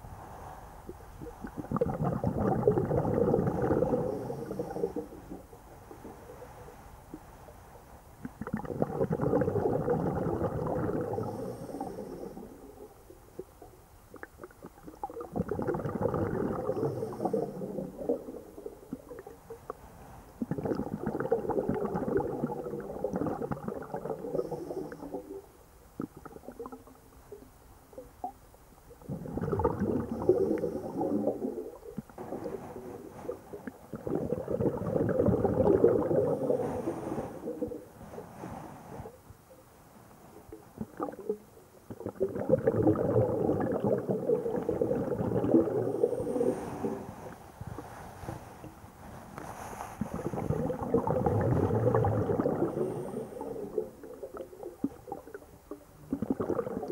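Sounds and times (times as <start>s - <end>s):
underwater bubbles gurgling: 0.9s - 6.7s, 8.2s - 19.8s, 20.4s - 38.2s, 40.5s - 48.0s, 49.6s - 56.9s.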